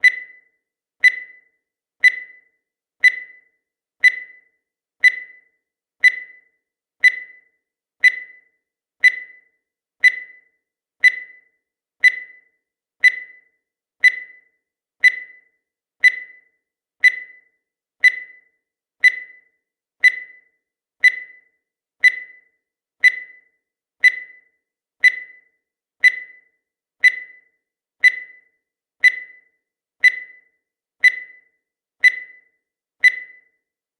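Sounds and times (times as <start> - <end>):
short high timer beeps: 0.0 - 33.5.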